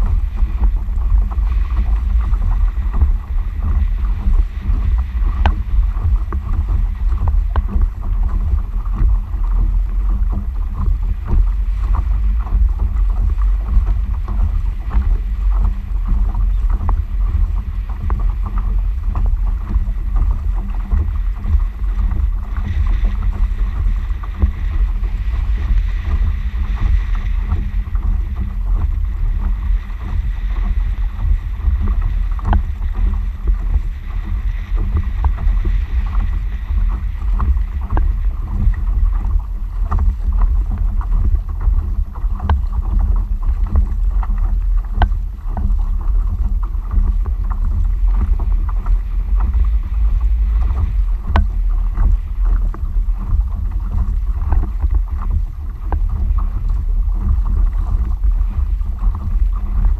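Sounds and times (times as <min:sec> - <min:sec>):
water lapping against kayak hull: 0:00.0 - 0:59.9
wind rumble on microphone: 0:00.0 - 0:59.9.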